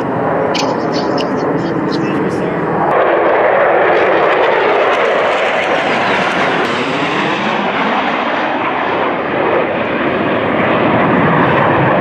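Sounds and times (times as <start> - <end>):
jet fighters flying overhead: 0.0 - 12.0.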